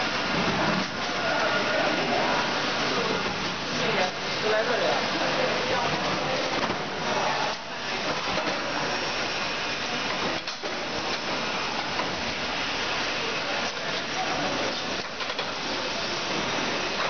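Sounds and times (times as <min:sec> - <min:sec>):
packing machine running: 0:00.0 - 0:17.0.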